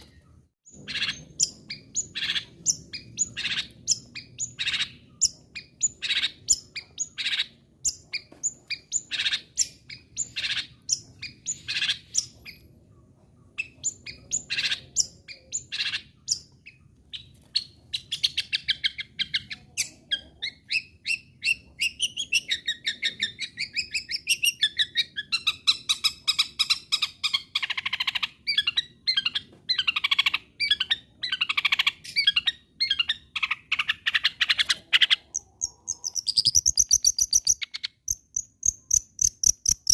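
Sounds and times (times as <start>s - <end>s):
bird sharp calls and chattering song: 0.0s - 39.9s.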